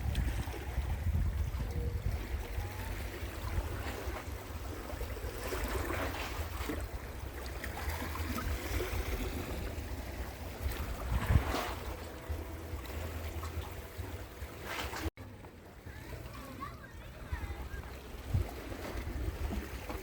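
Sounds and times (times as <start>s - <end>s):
wind rumbling on microphone: 0.0s - 15.1s, 17.1s - 20.0s
sea waves: 0.0s - 20.0s.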